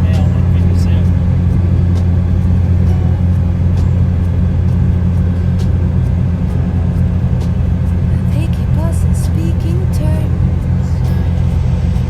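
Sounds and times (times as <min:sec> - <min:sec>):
car engine drone: 0:00.0 - 0:12.0
road noise inside car: 0:00.0 - 0:12.0.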